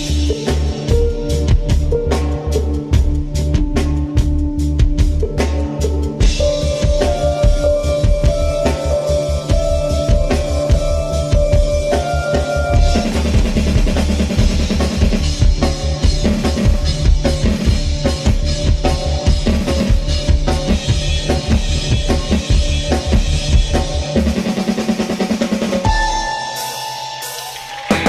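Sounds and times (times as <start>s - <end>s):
deep bass: 0.0s - 24.6s
music with driving drum beat: 0.0s - 28.0s.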